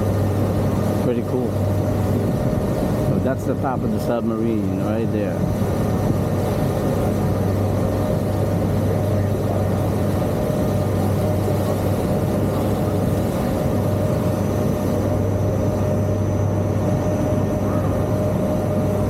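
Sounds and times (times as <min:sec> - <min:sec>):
boat engine droning: 0:00.0 - 0:19.0
wind and water rushing: 0:00.0 - 0:19.0.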